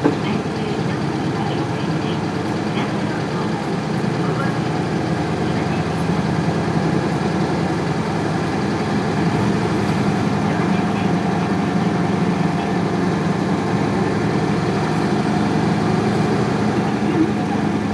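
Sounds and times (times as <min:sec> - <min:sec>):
diesel engine idling unevenly: 0:00.0 - 0:17.9.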